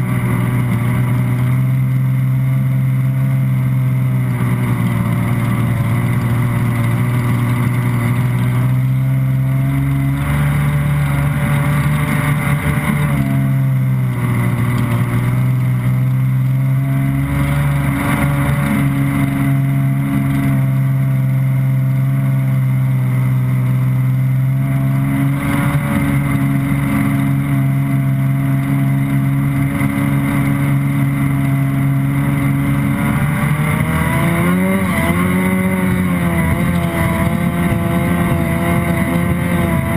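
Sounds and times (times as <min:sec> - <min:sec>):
jet ski engine droning: 0:00.0 - 0:39.9.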